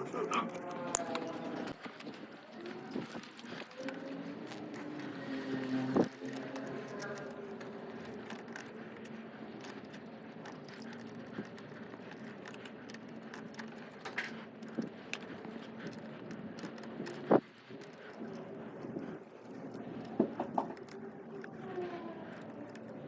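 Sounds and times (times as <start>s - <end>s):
tools clinking and rattling: 0.0s - 21.7s.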